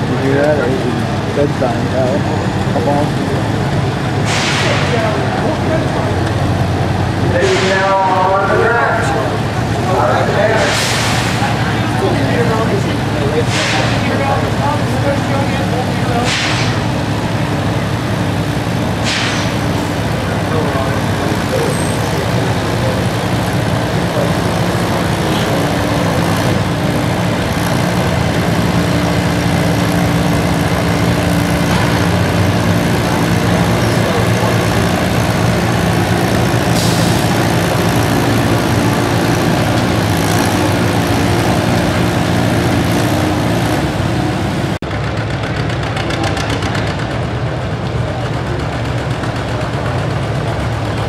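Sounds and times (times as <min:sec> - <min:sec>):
tractor engine running under load: 0:00.0 - 0:51.0.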